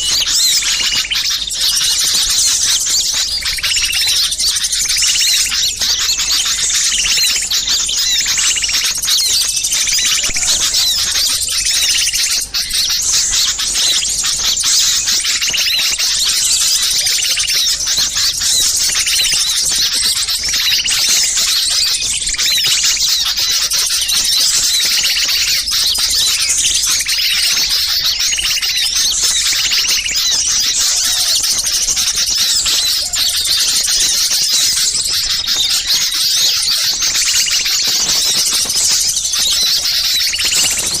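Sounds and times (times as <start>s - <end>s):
songbirds chirping and trilling: 0.0s - 41.0s.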